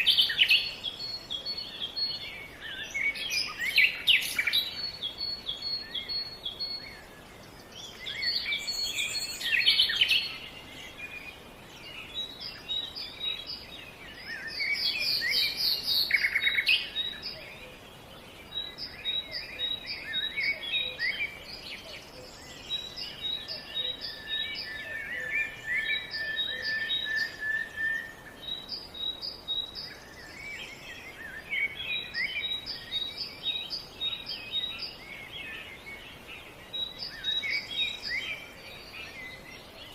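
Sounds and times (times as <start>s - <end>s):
birds singing and chirping: 0.0s - 39.9s
outdoor background hiss: 0.0s - 39.9s.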